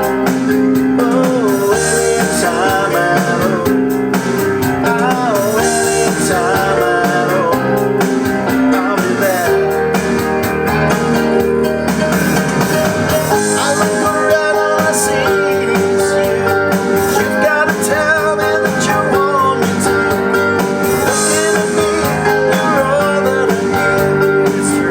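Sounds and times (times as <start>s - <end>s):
keyboard backing track: 0.0s - 24.9s
piano playing: 0.0s - 24.9s.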